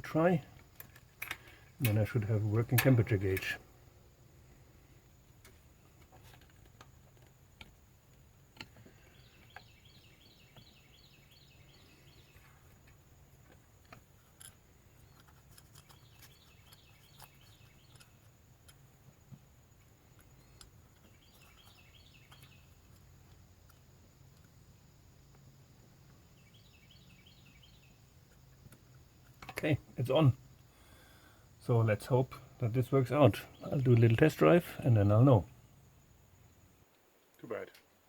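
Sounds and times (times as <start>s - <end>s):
bird chirping: 4.4s - 36.8s.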